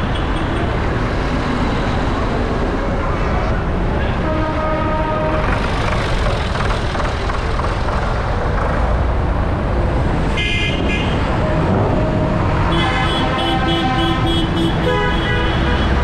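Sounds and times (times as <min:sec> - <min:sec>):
tractor engines rumbling: 0:00.0 - 0:16.0.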